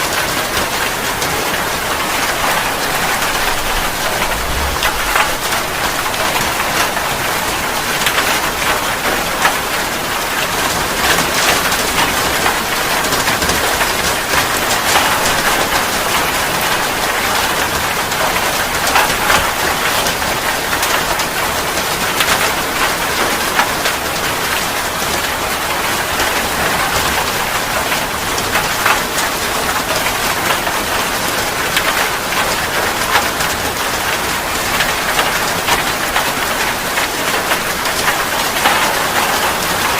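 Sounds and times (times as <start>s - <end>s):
loud rain: 0.0s - 39.9s.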